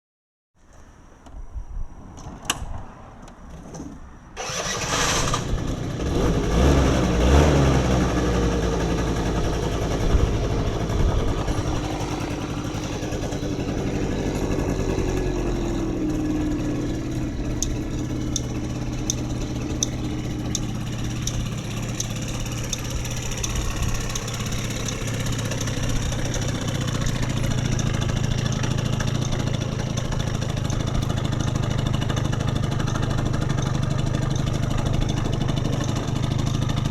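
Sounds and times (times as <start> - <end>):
scooter engine starting and idling: 3.7 - 36.9.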